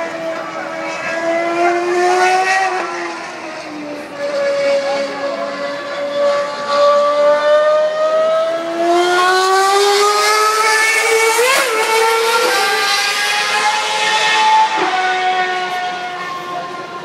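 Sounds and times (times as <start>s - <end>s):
lower-pitched racing engine: 0.0s - 17.0s
racing car engines at high revs: 0.0s - 17.0s.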